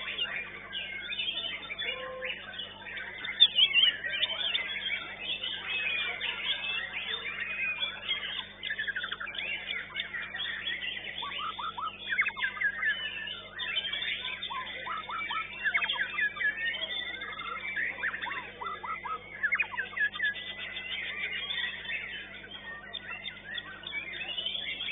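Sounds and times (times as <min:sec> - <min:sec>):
songbird whistling and chirping: 0:00.0 - 0:24.9.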